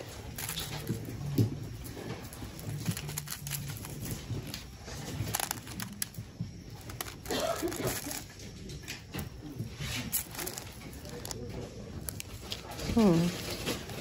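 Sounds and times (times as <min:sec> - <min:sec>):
faint voices: 0:00.0 - 0:14.0
small items rustling and clicking: 0:00.0 - 0:14.0.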